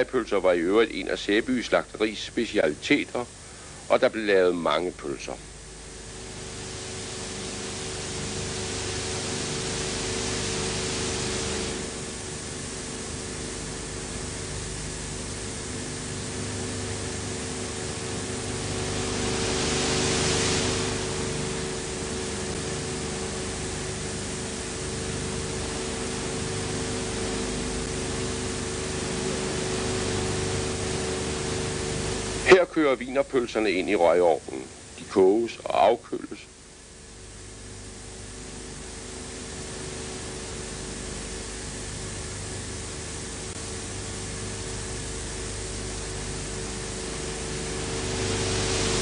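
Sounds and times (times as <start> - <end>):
film soundtrack hiss and static: 0.0 - 49.0
low hum: 4.8 - 35.0, 36.7 - 49.0.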